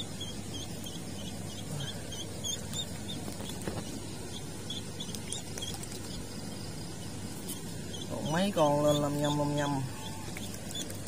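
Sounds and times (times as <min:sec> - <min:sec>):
duckling peeping: 0:00.0 - 0:11.0
faint low hum: 0:00.0 - 0:11.0.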